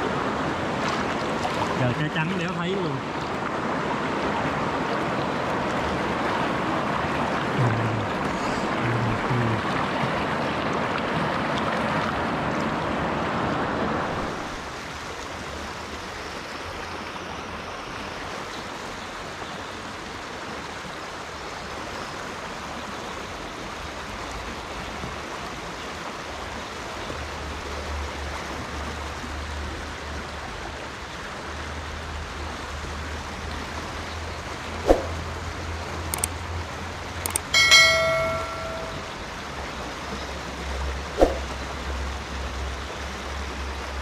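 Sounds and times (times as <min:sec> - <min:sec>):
stream rushing over boulders: 0:00.0 - 0:44.0.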